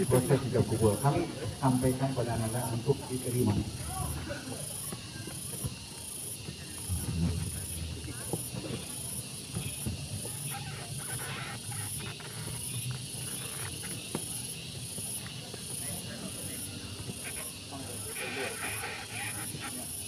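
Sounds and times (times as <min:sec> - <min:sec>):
crowd murmur: 0:00.0 - 0:20.0.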